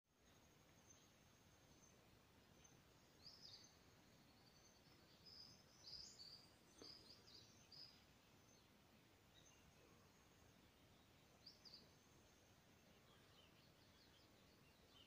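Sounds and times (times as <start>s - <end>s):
background hiss: 0.1s - 15.0s
faint bird chirps and whistles: 0.2s - 15.0s.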